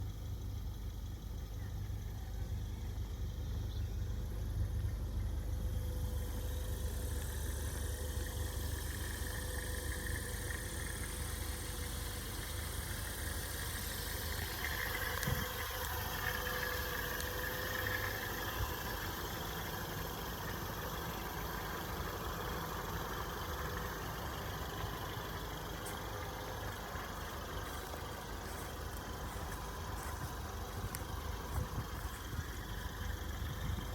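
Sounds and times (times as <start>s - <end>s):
faint steady tone: 0.0s - 33.9s
vehicle engine idling: 0.0s - 33.9s.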